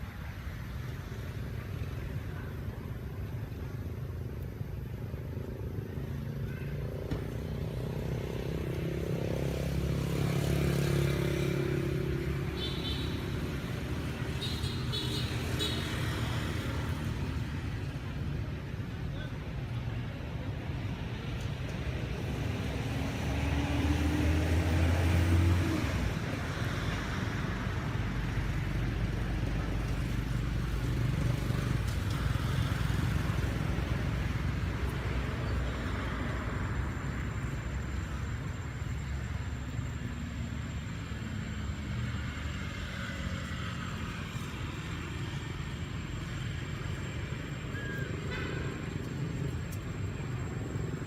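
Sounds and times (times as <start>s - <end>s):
outdoor background noise: 0.0s - 51.0s.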